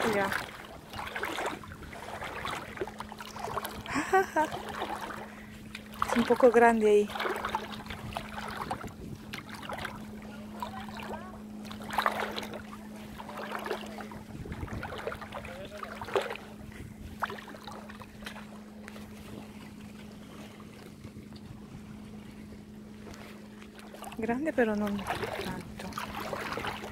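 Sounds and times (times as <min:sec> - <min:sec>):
feet splashing in shallow water: 0:00.0 - 0:26.9
steady low hum: 0:00.0 - 0:26.9.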